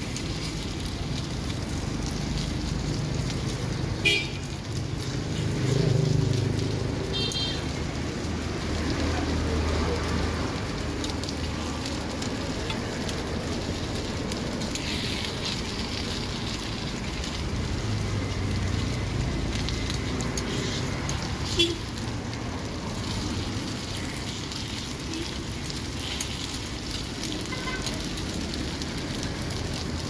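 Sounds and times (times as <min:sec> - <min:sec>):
batter balls sizzling in a pan: 0:00.0 - 0:30.0.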